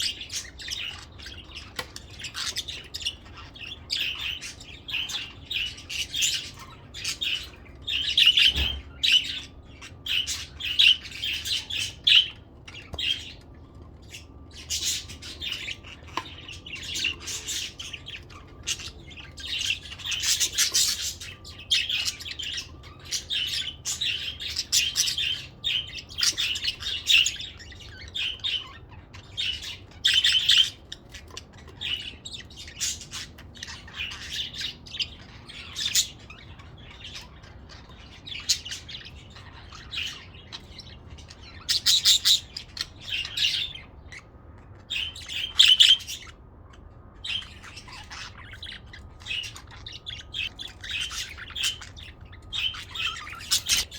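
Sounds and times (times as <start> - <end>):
budgies chattering and chirping: 0.0 - 53.9.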